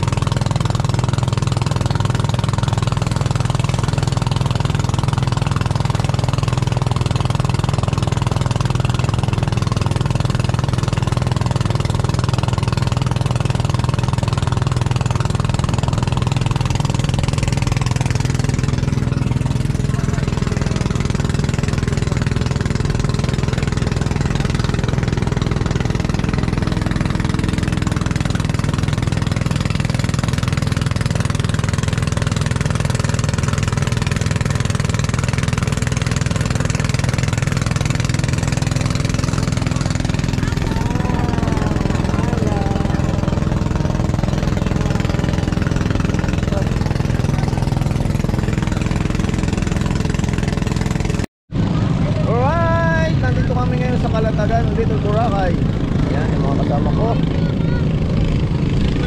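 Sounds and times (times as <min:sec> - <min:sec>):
boat engine running: 0:00.0 - 0:59.0
water churning: 0:00.0 - 0:59.0.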